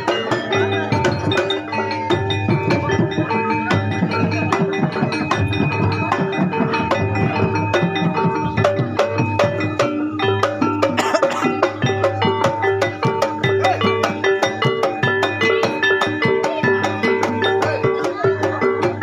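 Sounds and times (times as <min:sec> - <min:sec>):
drums beating: 0:00.0 - 0:19.0
metal-keyed percussion notes: 0:00.0 - 0:19.0.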